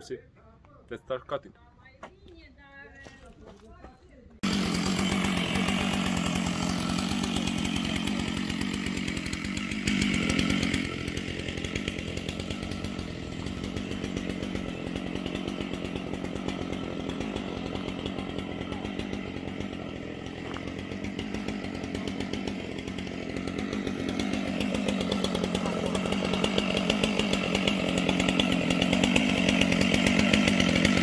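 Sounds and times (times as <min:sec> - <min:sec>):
chainsaw running: 0:04.3 - 0:31.0.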